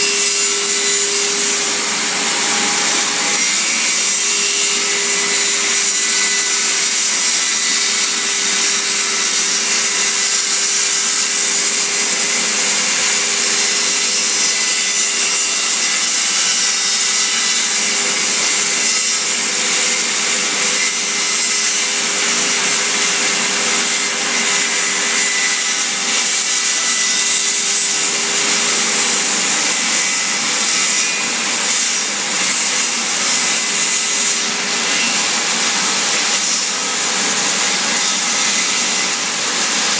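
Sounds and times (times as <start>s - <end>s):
power tool sawing hardwood: 0.0s - 39.9s.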